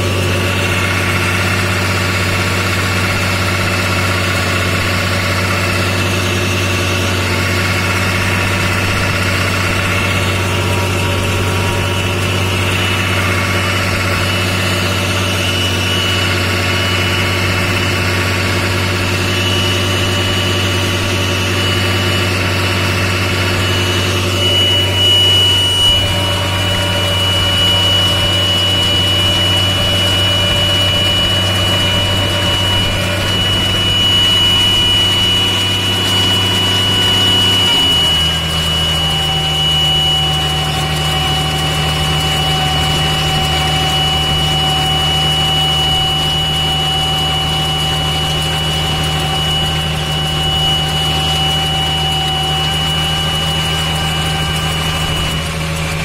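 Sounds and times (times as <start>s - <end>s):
thin high whine: 0.0s - 56.0s
tractor diesel engine running: 0.0s - 56.0s.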